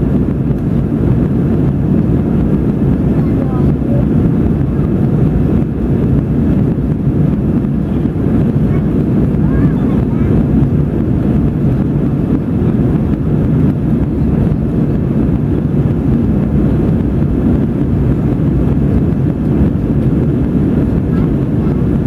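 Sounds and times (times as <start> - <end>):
jet engine roar in cabin: 0.0 - 22.0.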